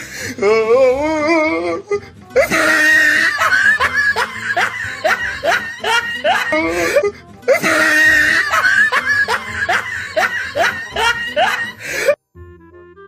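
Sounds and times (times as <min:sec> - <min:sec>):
comic laughing with whoops: 0:00.4 - 0:12.2.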